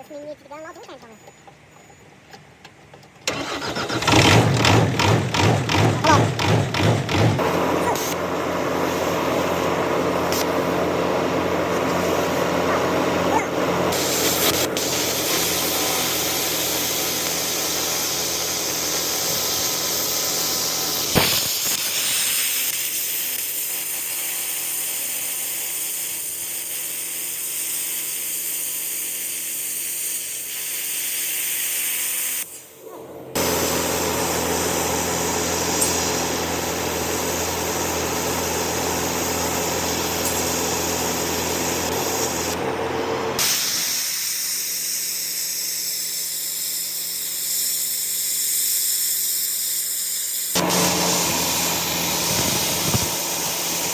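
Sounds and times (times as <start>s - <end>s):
metalworking power tools whirring: 3.2s - 53.9s.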